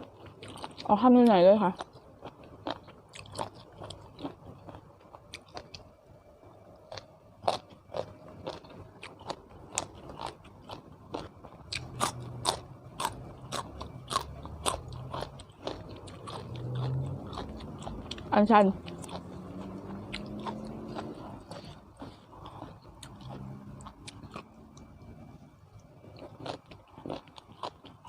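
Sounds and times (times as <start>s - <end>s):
person chewing crunchy food: 0.0s - 1.0s, 1.6s - 6.0s, 6.8s - 28.0s.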